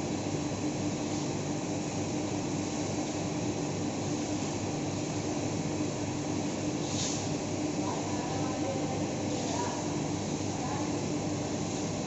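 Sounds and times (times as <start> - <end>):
washing machine running: 0.0 - 12.0.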